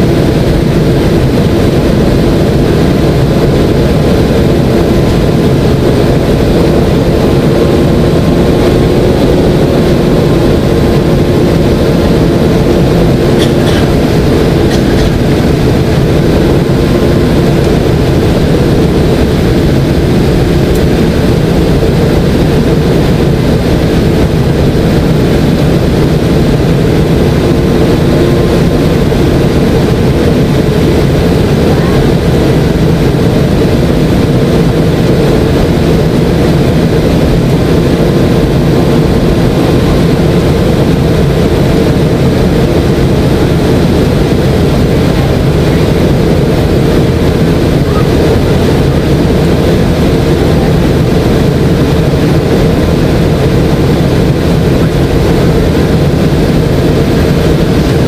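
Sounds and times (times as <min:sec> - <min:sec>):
airflow rushing in aircraft cabin: 0:00.0 - 0:58.0
low hum of jet engines: 0:00.0 - 0:58.0.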